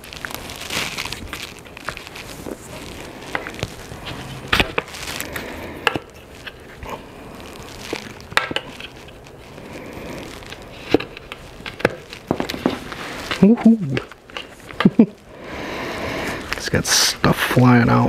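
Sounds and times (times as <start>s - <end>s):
rubber rubbing against rim: 0.0s - 14.8s.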